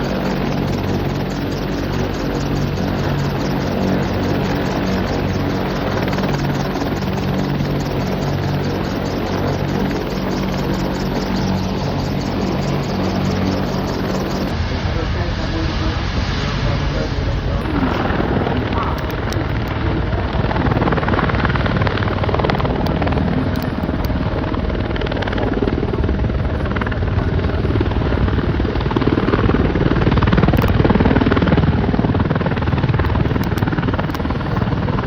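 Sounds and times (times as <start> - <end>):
aircraft engine: 0.0 - 35.0.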